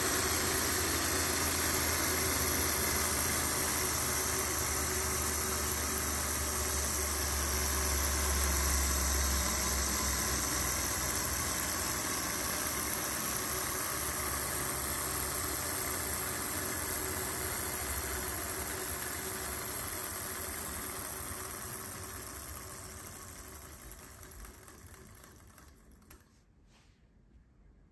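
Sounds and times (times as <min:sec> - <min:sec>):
model engine running: 0:00.0 - 0:26.2.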